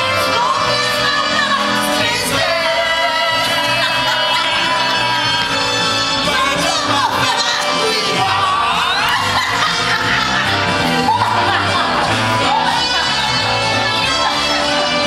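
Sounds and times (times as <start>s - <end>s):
musical accompaniment: 0.0s - 15.0s
singers performing show tune: 0.0s - 15.0s.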